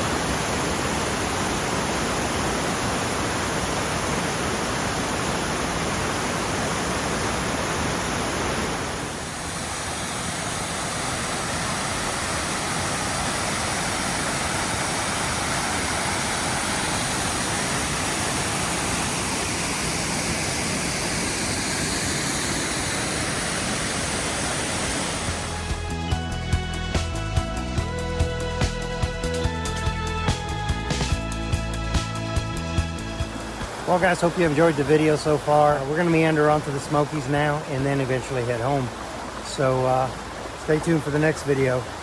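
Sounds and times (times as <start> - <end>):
waterfall rushing: 0.0 - 26.6, 31.6 - 42.0.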